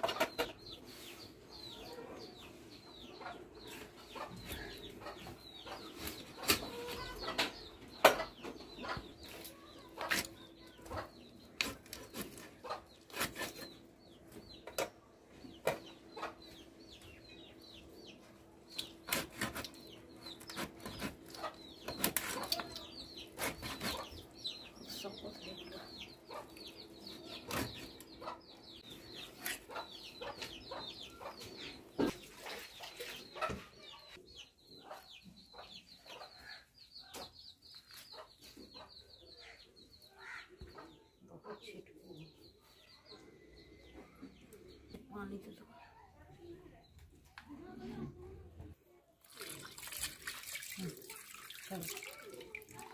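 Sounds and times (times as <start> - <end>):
chickens clucking: 0.0 - 46.1.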